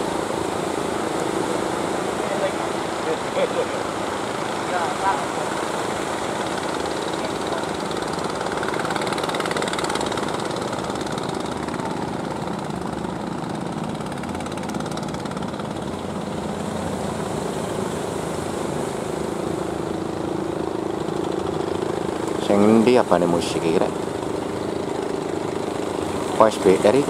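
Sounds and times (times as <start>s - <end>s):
boat engines droning: 0.0s - 27.0s
waves washing: 0.0s - 27.0s.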